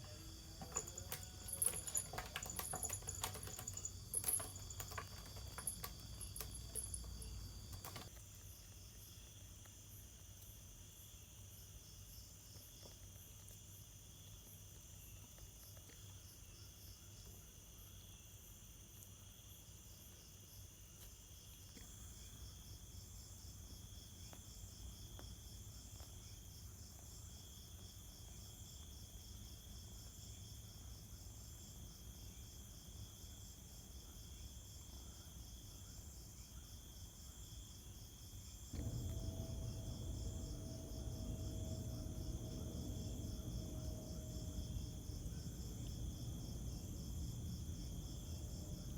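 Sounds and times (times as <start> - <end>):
insects chirring: 0.0 - 48.9.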